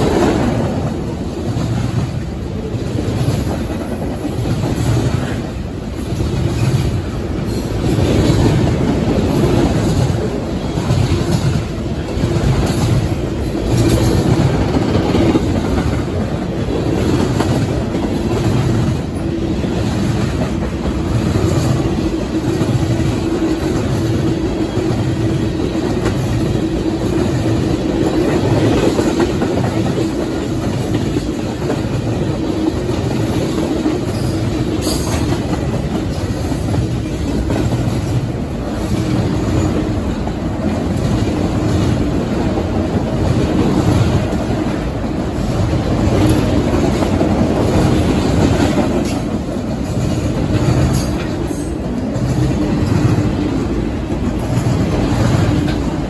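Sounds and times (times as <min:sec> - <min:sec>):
freight train wheels rumbling: 0:00.0 - 0:56.0
rail clatter: 0:00.0 - 0:56.0.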